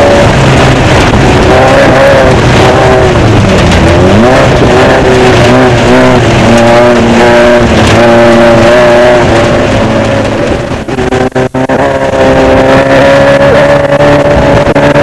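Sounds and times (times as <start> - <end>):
constant rushing noise: 0.0 - 15.0
race car engine revving: 0.0 - 15.0.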